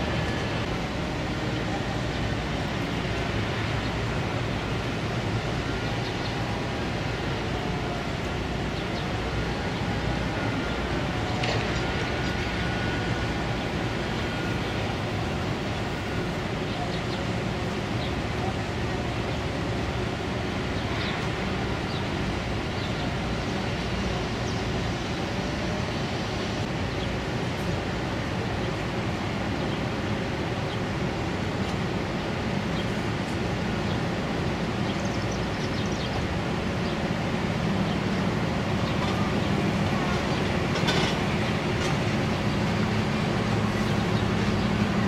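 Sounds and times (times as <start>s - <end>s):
ship engine low rumble: 0.0s - 45.0s.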